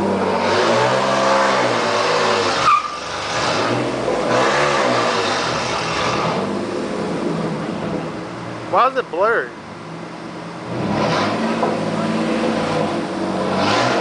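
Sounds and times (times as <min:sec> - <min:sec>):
truck engine revving: 0:00.0 - 0:09.0, 0:10.6 - 0:14.0.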